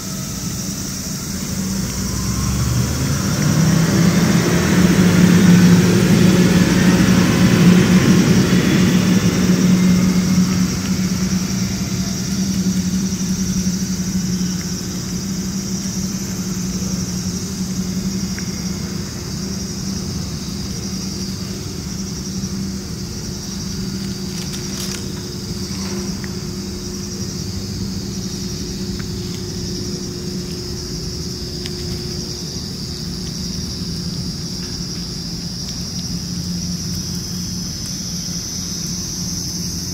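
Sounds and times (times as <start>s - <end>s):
faint high pulsing buzz: 0.0s - 39.9s
vehicle engine humming: 0.0s - 39.9s.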